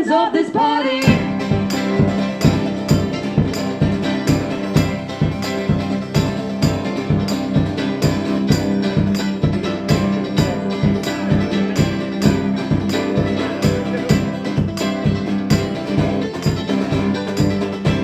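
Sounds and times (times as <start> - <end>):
live band instrumental music: 1.0 - 18.0.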